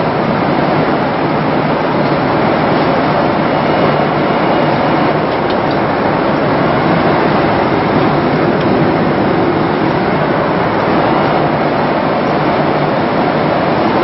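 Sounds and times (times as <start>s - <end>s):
airliner cabin noise: 0.0s - 14.0s.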